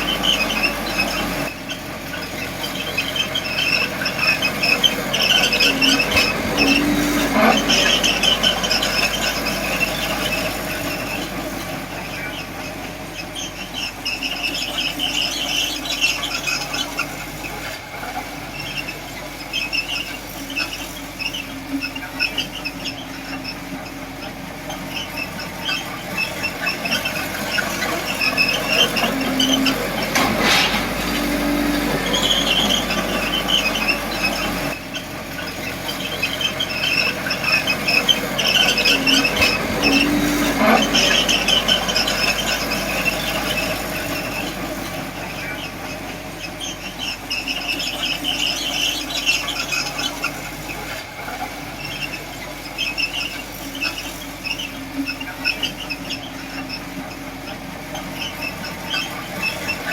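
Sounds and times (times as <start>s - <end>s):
high-pitched squeals: 0.0s - 59.9s
small drive motors running: 0.0s - 59.9s.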